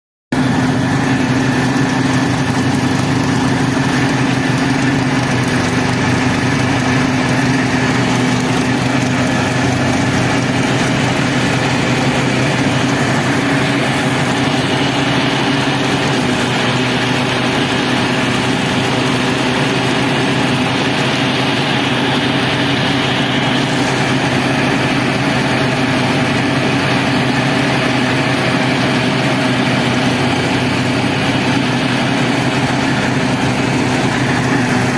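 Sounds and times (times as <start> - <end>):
tractor and thresher droning: 0.3 - 34.9.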